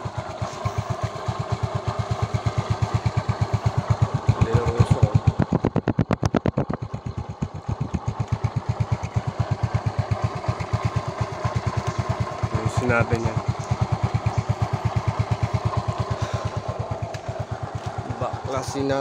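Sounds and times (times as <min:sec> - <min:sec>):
scooter engine idling: 0:00.0 - 0:19.0.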